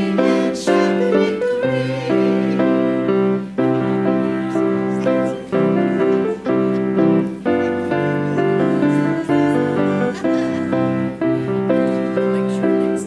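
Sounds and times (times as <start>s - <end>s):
keyboard chords over bass line: 1.8s - 13.0s.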